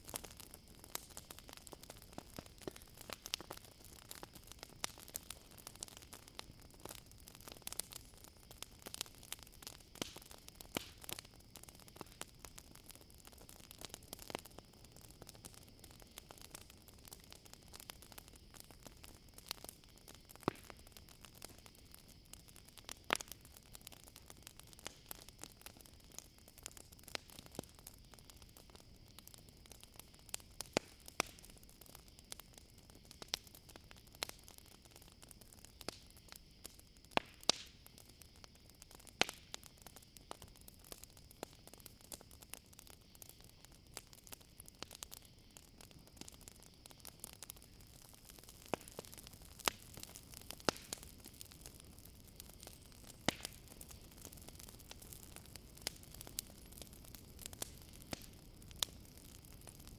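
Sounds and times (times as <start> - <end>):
campfire crackling and popping: 0.0 - 59.9
crickets trilling: 0.0 - 59.9.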